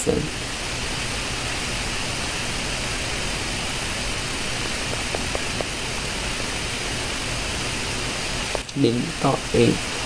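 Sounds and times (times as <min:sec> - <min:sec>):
microphone hiss: 0:00.0 - 0:10.0.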